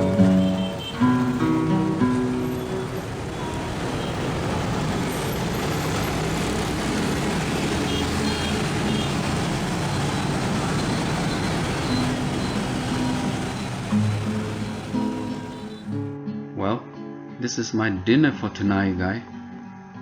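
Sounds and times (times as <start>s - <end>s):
motorbike traffic hum: 0.0s - 16.2s.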